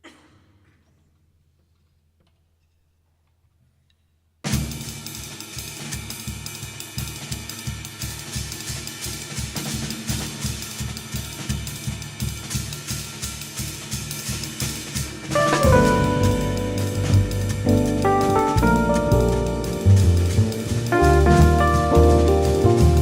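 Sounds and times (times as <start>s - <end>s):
drum kit jazz groove: 4.5s - 23.0s.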